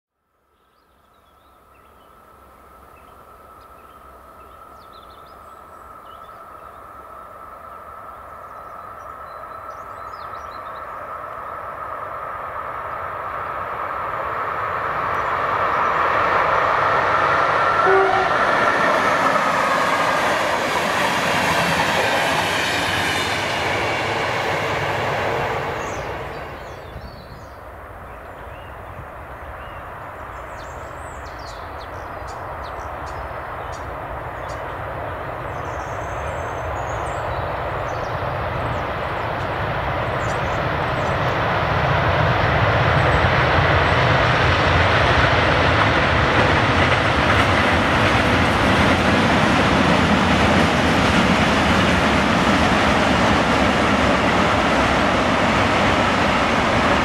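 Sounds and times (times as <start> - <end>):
train wheel-on-rail rumble: 1.2 - 57.0.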